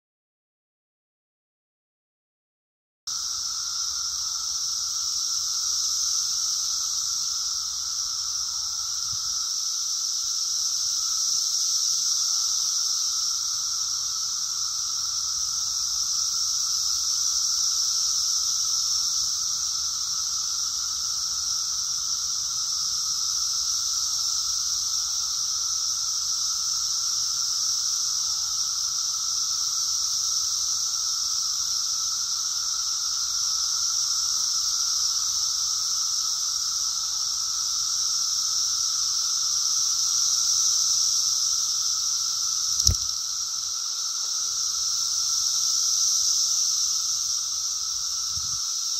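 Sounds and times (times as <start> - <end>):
cicadas buzzing: 3.1 - 48.9.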